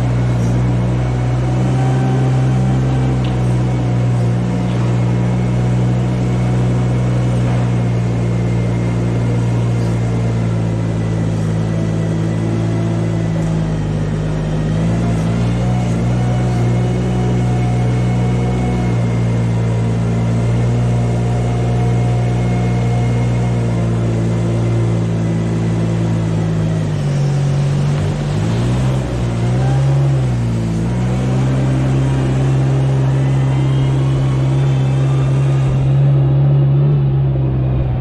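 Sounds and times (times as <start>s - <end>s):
large engine running: 0.0s - 38.0s.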